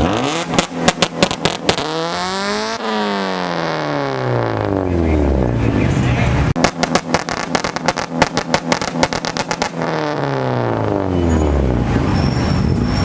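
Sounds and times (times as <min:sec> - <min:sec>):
car exhaust rapid bangs: 0:00.0 - 0:05.8, 0:06.4 - 0:11.8
engine revs dropping: 0:00.0 - 0:13.0.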